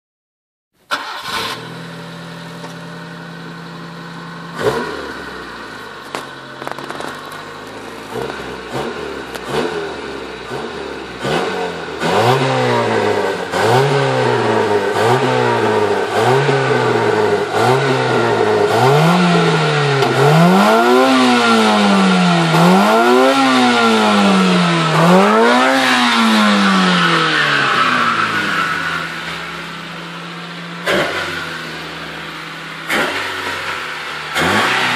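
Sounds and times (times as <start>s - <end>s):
car engine idling and revving: 0.8s - 34.9s.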